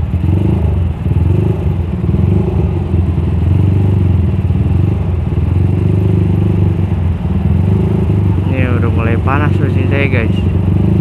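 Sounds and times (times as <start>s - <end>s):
motorcycle engine running at low revs: 0.0s - 11.0s
other motorcycle engines: 0.0s - 11.0s.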